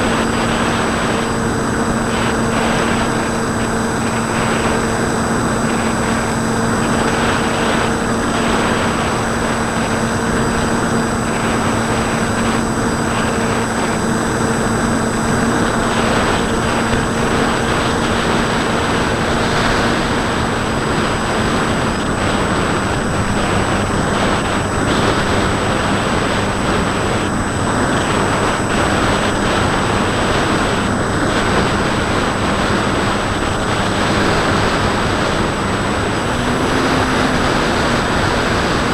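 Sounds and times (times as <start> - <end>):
model plane motor hum: 0.0 - 38.9
rushing wind: 0.0 - 38.9.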